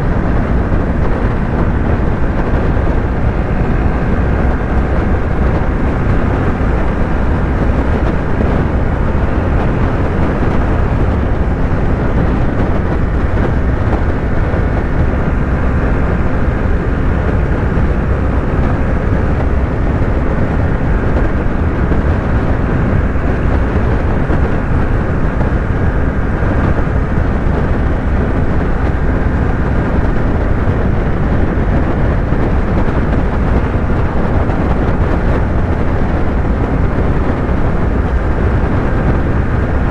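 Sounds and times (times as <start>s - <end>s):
heavy wind and road noise: 0.0s - 39.9s
motorcycle engine cruising: 0.0s - 39.9s.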